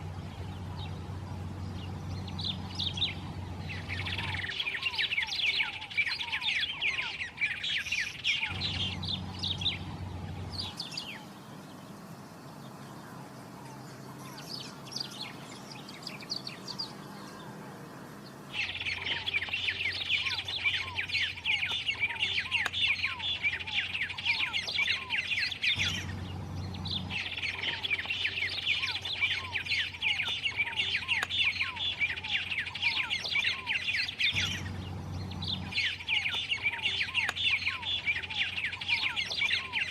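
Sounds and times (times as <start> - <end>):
birds singing high chirping notes: 0.0 - 39.9.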